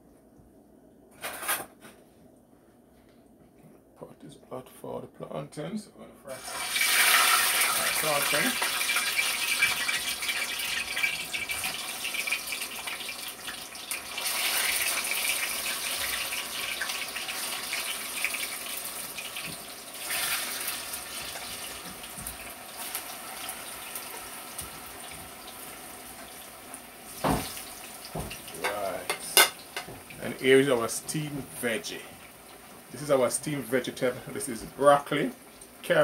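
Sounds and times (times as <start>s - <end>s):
plantain frying in hot oil: 6.3s - 36.0s.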